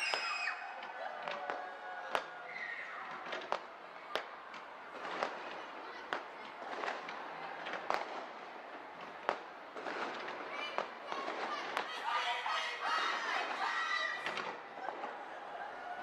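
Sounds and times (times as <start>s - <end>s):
fireworks crackle: 0.0s - 15.7s
fireworks bangs: 0.0s - 15.8s.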